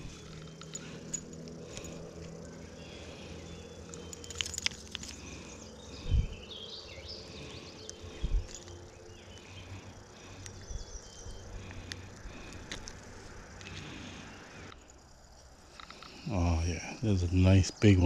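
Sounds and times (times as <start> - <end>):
birds chirping: 0.0 - 18.0
insects: 0.0 - 18.0.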